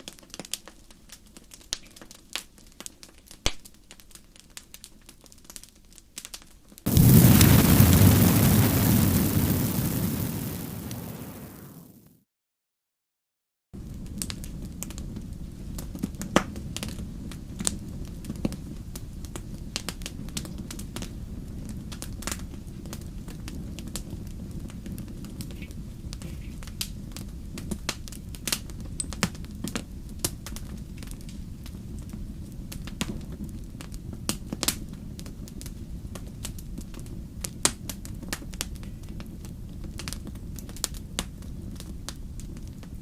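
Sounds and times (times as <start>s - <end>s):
campfire crackling: 0.0s - 12.2s, 13.8s - 43.0s.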